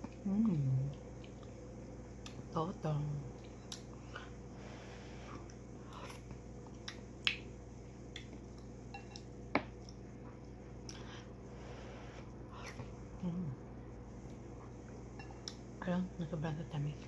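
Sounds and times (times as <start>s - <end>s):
soft eating sounds: 0.0s - 17.0s.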